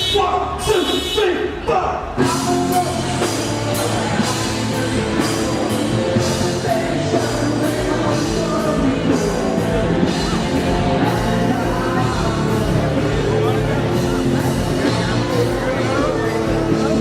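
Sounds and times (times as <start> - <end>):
loud rock music with singing: 0.0 - 17.0.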